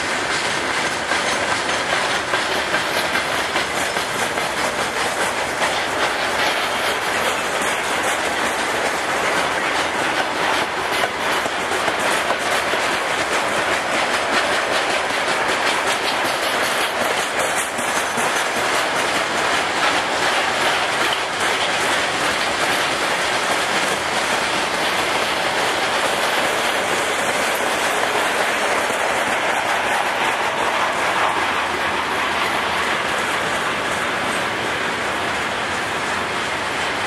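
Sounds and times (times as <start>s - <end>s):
steel wheels running on rails: 0.0s - 37.0s.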